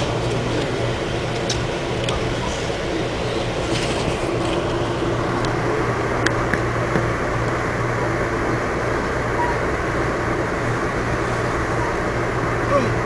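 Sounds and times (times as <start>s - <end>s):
train coach rumbling: 0.0s - 13.0s.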